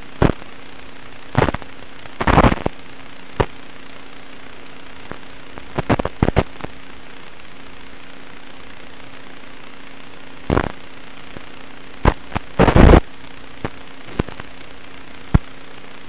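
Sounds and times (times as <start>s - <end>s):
sharp crackling bursts: 0.0s - 16.0s
static hiss: 0.0s - 16.0s.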